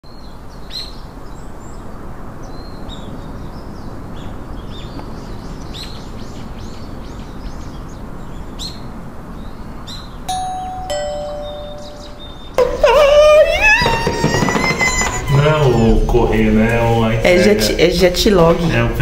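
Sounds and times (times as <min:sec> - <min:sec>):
birds chirping: 0:00.0 - 0:16.4
low background rush: 0:03.1 - 0:19.0.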